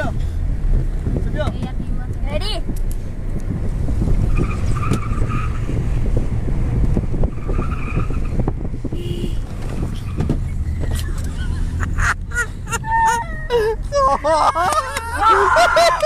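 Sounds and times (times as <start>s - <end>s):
car rumbling on rough road: 0.0s - 16.0s.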